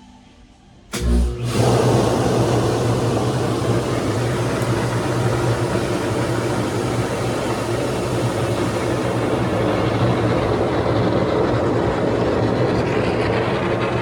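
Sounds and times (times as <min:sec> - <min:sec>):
machine humming and rushing: 0:00.9 - 0:14.0.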